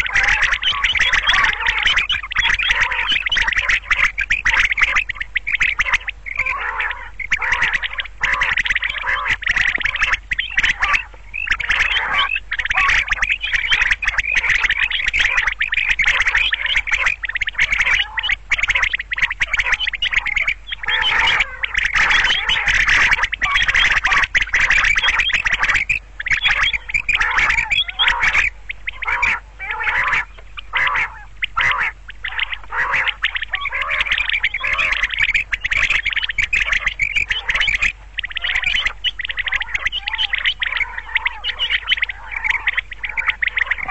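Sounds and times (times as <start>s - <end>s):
faint low hum: 0.0s - 43.9s
quail calling: 0.0s - 43.9s.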